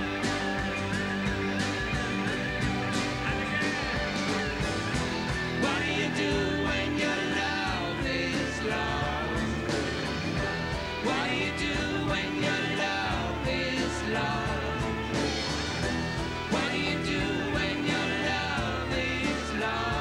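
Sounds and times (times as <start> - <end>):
drums: 0.0 - 20.0
live band playing: 0.0 - 20.0
strummed acoustic guitar: 0.0 - 20.0.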